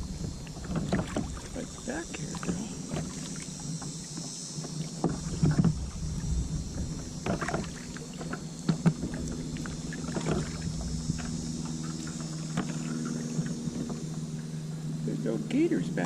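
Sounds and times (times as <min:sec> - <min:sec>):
paddle knocking against hull: 0:00.0 - 0:14.2
paddle splashing in water: 0:00.0 - 0:14.5
steady low hum: 0:00.0 - 0:16.0.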